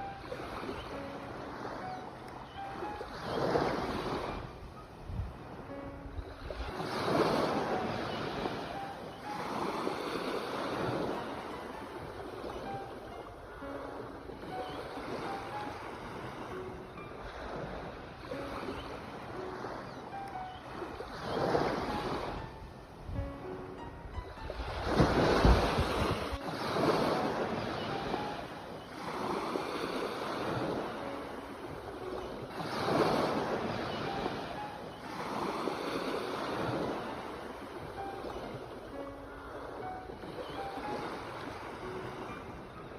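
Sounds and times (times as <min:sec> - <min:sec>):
sea waves breaking: 0:00.0 - 0:42.9.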